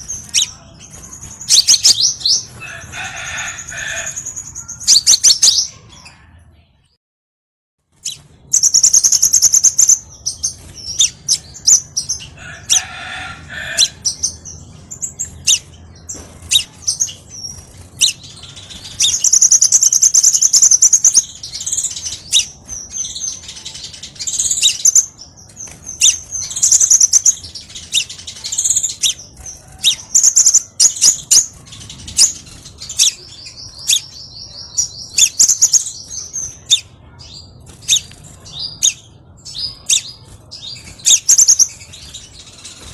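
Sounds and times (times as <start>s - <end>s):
bird chirps and trills: 0.0s - 6.6s, 7.9s - 42.9s.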